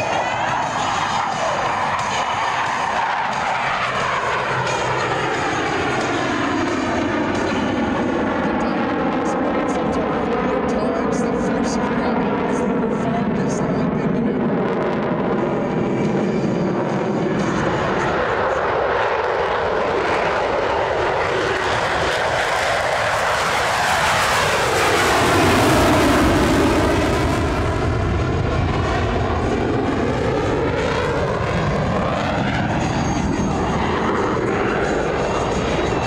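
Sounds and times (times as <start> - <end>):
jet engine passing overhead: 0.0 - 36.0.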